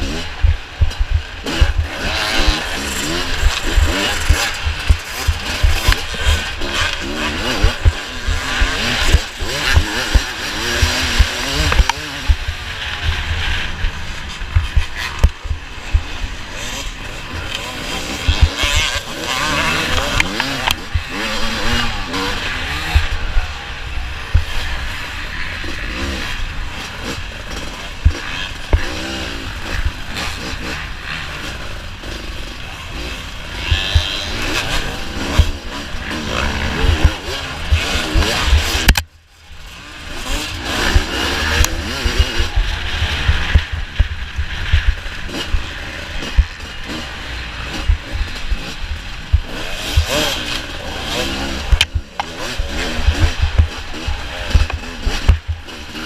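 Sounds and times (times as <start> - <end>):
dirt bikes revving: 0.0 - 56.0.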